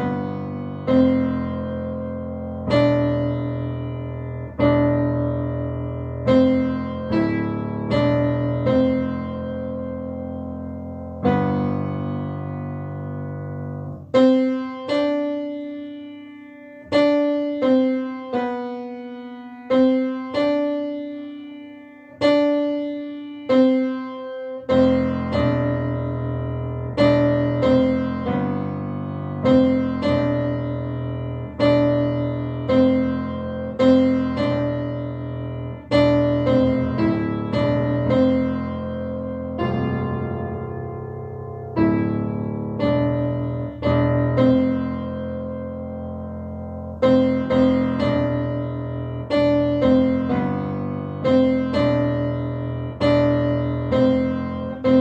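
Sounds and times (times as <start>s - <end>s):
low bass piano notes: 0.0s - 55.0s
slow piano melody: 0.0s - 55.0s.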